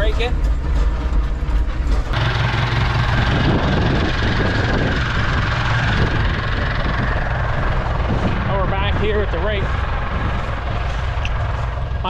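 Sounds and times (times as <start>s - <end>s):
high whine: 0.0s - 12.0s
tractor engine running: 0.0s - 12.0s.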